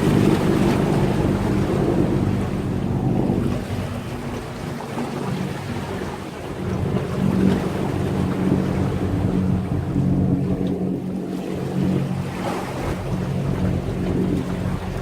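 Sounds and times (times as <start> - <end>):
low steady drone: 0.0 - 15.0
sea waves washing: 0.0 - 15.0
wind buffeting microphone: 0.0 - 15.0.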